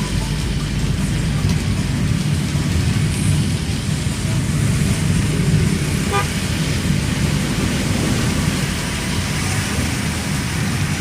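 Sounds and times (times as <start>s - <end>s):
car road and engine rumble: 0.0s - 11.0s
rain and tyre spray hiss: 0.0s - 11.0s.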